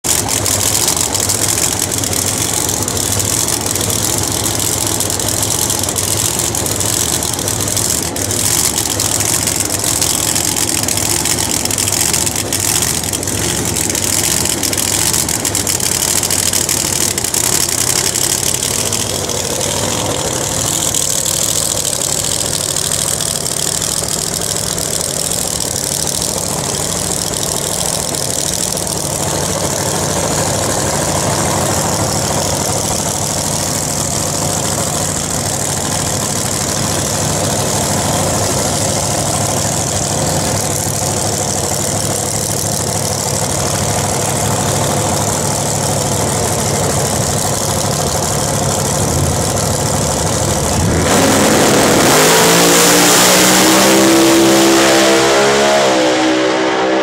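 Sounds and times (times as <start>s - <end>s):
car engine idling loudly: 0.0s - 56.9s.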